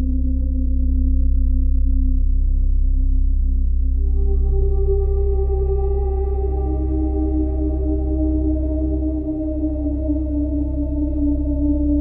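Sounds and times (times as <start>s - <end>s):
dark ambient drone music: 0.0s - 12.0s.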